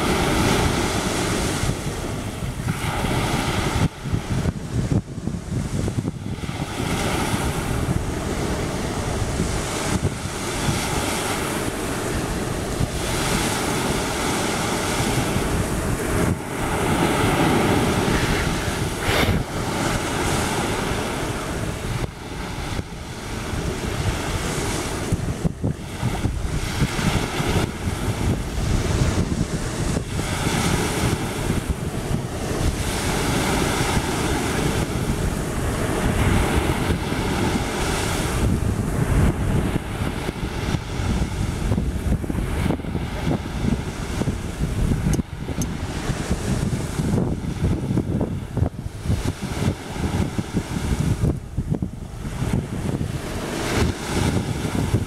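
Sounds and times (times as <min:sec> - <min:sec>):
small waves washing onto beach: 0:00.0 - 0:55.0
wind buffeting microphone: 0:00.0 - 0:55.0.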